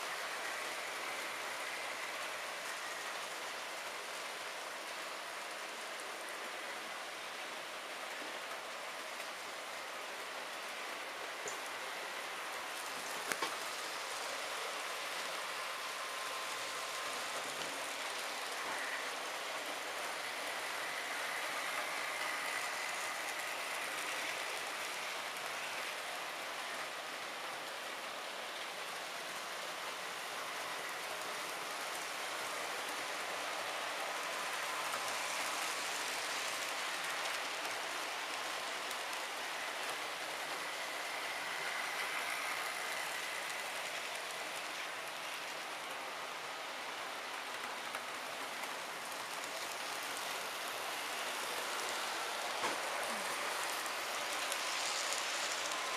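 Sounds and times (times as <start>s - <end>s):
model train wheels rolling on rails: 0.0s - 55.9s.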